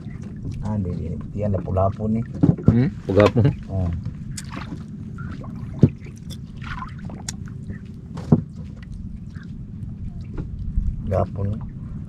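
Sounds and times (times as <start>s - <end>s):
low rumble: 0.0s - 12.0s
water lapping against canoe: 0.0s - 12.0s.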